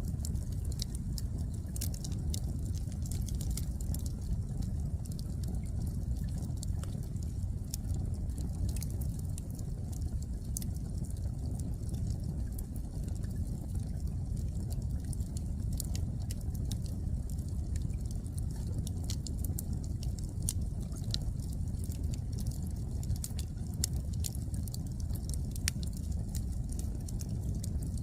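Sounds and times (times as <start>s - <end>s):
burning logs crackling and popping: 0.0s - 28.0s
flames rumbling: 0.0s - 28.0s.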